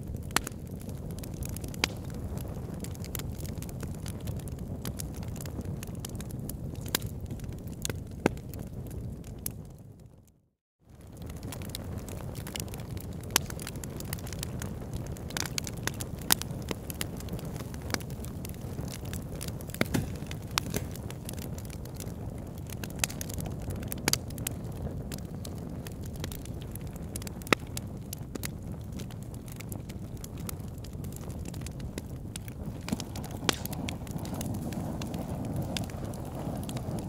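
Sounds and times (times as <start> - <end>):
low fire rumble: 0.0 - 37.0
wood fire crackling and popping: 0.0 - 37.0.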